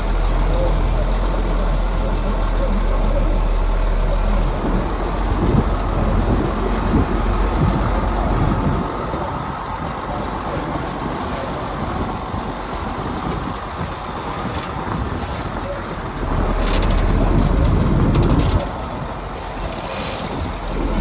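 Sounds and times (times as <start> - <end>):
diesel construction machinery running: 0.0 - 21.0.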